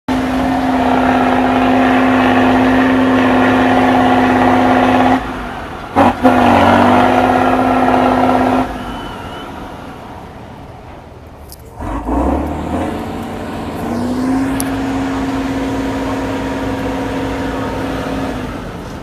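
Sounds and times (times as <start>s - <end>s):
loud engine bursts: 0.1s - 9.7s, 11.7s - 19.0s
truck engine revving hard: 0.1s - 10.0s, 11.7s - 19.0s.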